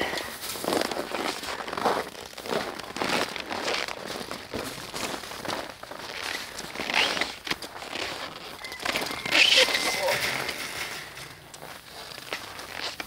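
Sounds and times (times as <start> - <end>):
footsteps crunching in snow: 0.0 - 13.0.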